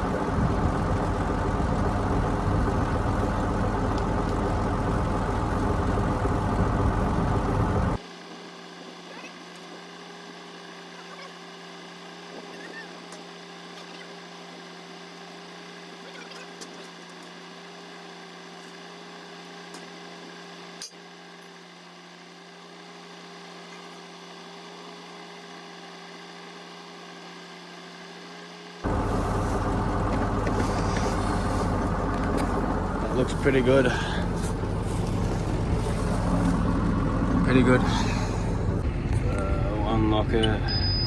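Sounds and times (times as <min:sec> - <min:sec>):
tractor engine hum from cab: 0:00.0 - 0:41.0.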